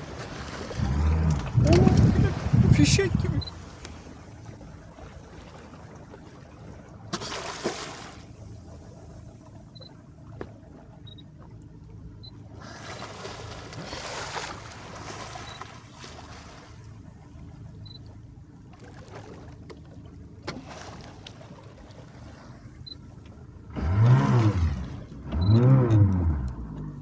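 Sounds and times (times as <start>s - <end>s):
motorboat engine running: 0.0s - 27.0s.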